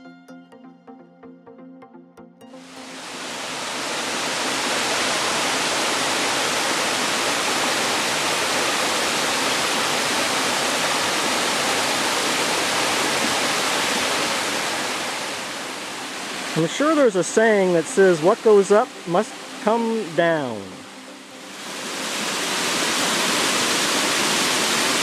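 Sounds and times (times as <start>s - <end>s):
waterfall rushing over rock: 2.6s - 20.7s, 21.4s - 25.0s.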